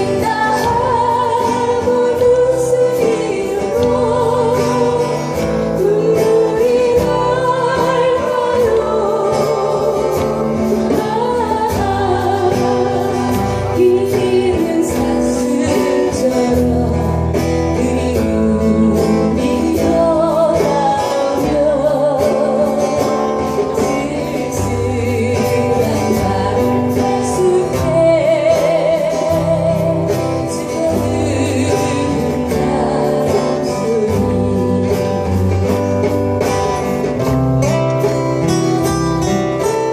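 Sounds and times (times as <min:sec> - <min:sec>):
person singing with vibrato: 0:00.0 - 0:37.0
guitar and bass: 0:00.0 - 0:39.9.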